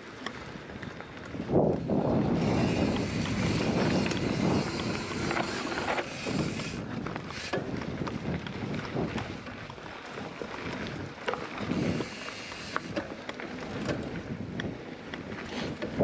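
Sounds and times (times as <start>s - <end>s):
bike clicks and rattles: 0.0s - 16.0s
bike tyres rolling on dirt: 0.0s - 16.0s
wind buffeting microphone: 0.5s - 12.3s, 12.9s - 16.0s.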